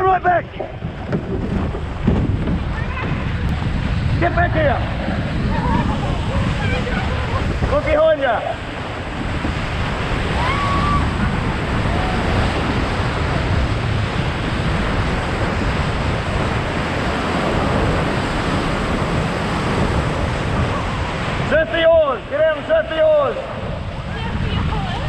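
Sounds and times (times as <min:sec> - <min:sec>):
water rushing: 0:00.0 - 0:25.0
wind buffeting microphone: 0:00.0 - 0:25.0.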